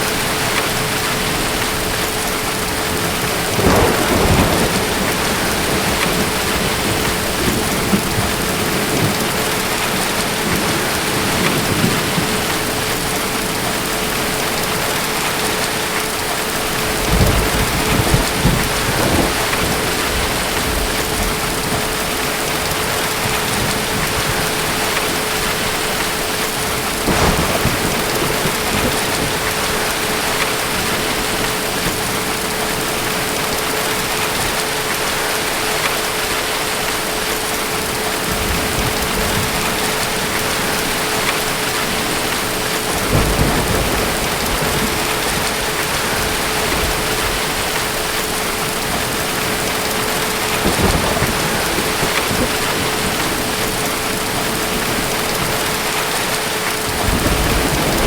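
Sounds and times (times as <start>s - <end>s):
low thunder rumbles: 0.0s - 35.0s, 37.1s - 58.0s
heavy rain: 0.0s - 58.0s.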